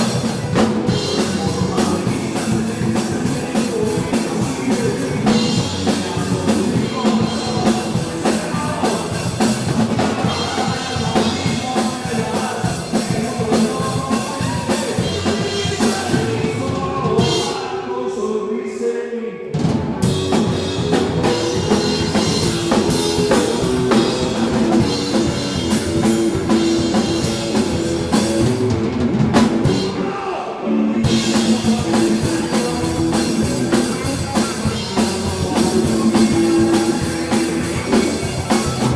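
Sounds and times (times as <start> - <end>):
drum kit: 0.0 - 17.7, 19.5 - 30.3, 31.0 - 38.9
rock band playing live: 0.0 - 17.8, 19.5 - 38.9.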